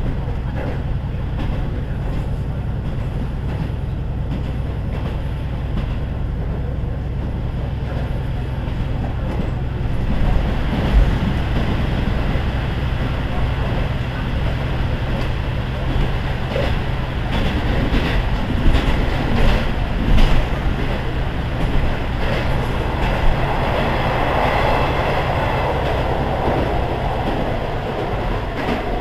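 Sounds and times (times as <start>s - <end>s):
diesel railcar engine drone: 0.0s - 29.0s
wheel and rail noise: 0.0s - 29.0s.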